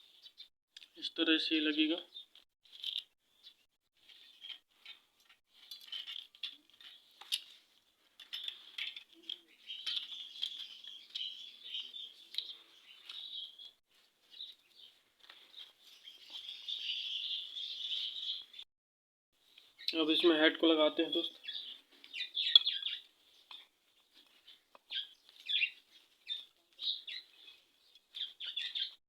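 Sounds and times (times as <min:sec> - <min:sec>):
small birds chirping: 0:00.0 - 0:18.7, 0:19.5 - 0:29.0.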